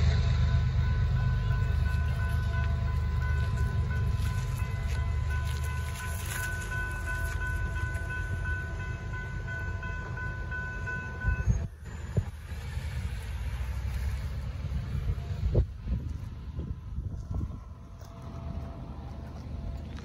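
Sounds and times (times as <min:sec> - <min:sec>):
railroad crossing bells ringing: 0:00.0 - 0:13.8, 0:17.7 - 0:20.0
passing cars: 0:00.0 - 0:20.0
wind rumble: 0:00.0 - 0:20.0.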